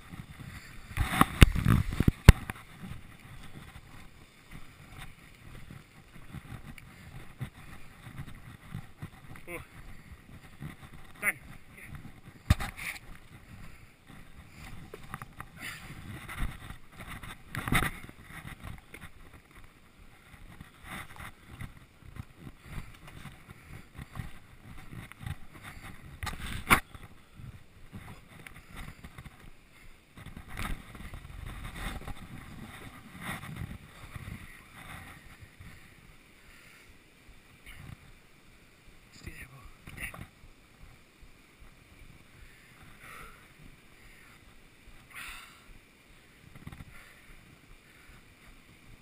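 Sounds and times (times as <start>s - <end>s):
camera microphone rubbing: 0.0s - 36.0s, 37.5s - 38.2s, 39.2s - 41.0s, 46.4s - 47.2s
wind noise: 0.0s - 49.0s.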